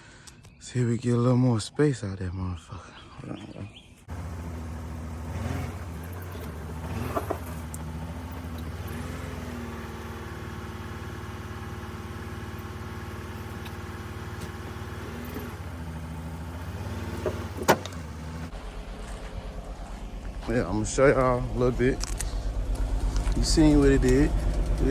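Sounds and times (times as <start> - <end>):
car engine idling and revving: 4.0 - 24.9.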